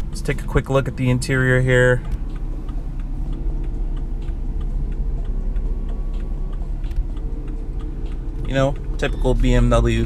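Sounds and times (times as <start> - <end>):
engine and road drone: 0.0 - 10.0
turn signal ticking: 0.0 - 10.0.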